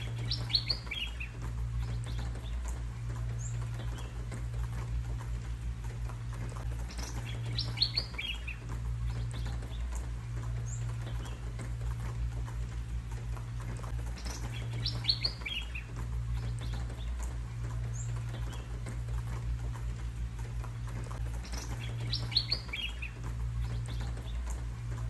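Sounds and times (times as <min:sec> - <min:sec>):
songbirds chirping: 0:00.0 - 0:25.0
steady low rumble: 0:00.0 - 0:25.0.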